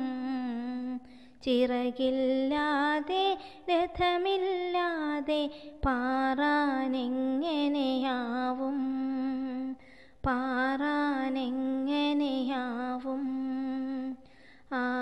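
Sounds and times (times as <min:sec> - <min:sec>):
woman singing a slow chant-like tune: 0:00.0 - 0:15.0.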